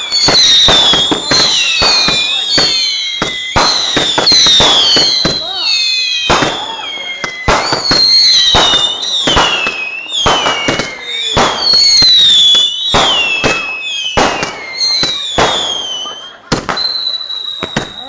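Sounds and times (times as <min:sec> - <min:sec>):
firework whistling shots: 0:00.0 - 0:18.0.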